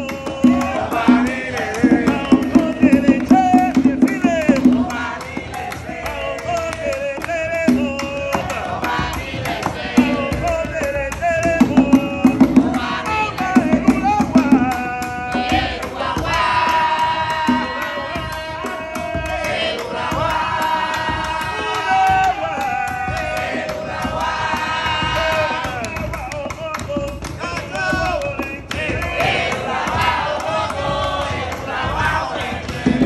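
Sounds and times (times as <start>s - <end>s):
group singing chants: 0.0s - 33.0s
hand drums playing: 0.0s - 33.0s.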